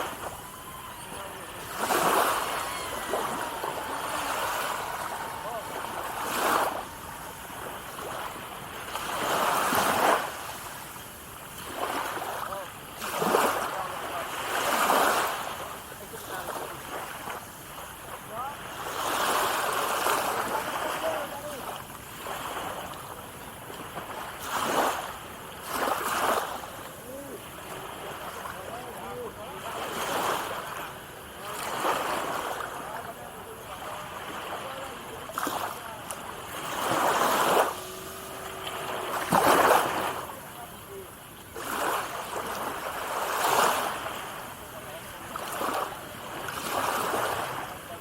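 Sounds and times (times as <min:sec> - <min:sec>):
sea surf washing ashore: 0:00.0 - 0:48.0
small waves breaking on beach: 0:00.0 - 0:48.0.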